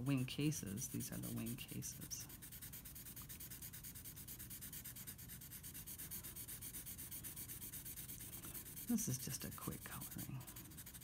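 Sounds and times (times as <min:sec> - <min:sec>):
marker scribbling on paper: 0:00.0 - 0:11.0.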